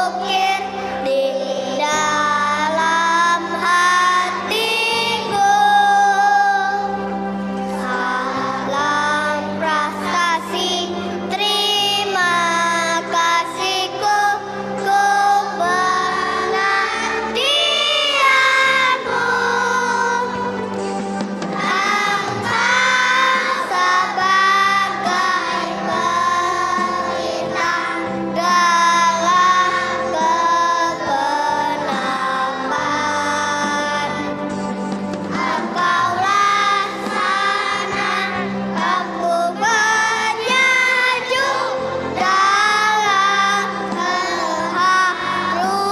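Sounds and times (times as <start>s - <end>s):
children's choir singing: 0.0s - 45.9s
instrumental accompaniment: 0.0s - 45.9s.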